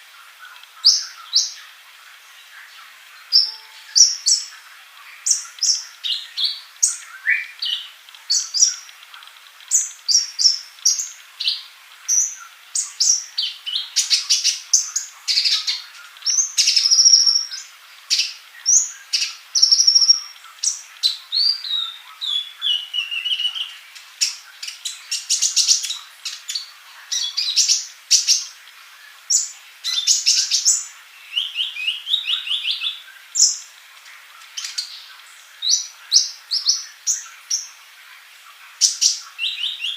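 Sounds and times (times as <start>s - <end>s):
bird singing high chirps and trills: 0.0s - 9.0s, 9.7s - 39.9s.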